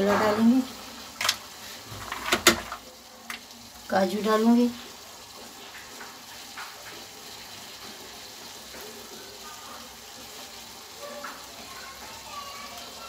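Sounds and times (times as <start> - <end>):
faint sizzle in pan: 0.0 - 13.0.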